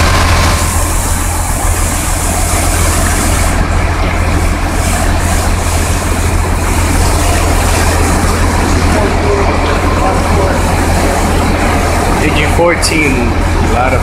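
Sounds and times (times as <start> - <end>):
fire engine drone: 0.0 - 14.0.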